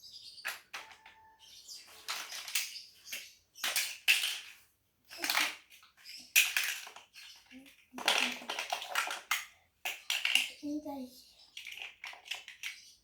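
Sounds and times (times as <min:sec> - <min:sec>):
plastic bricks rattling: 0:01.8 - 0:13.0.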